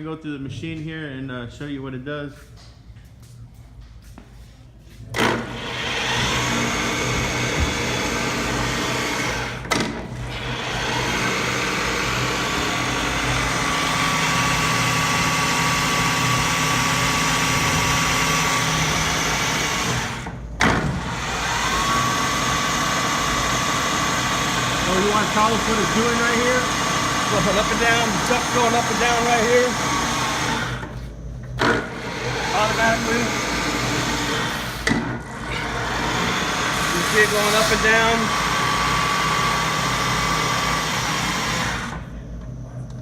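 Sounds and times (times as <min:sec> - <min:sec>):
steady high whine: 0:00.0 - 0:43.0
milling machine running: 0:05.2 - 0:42.3.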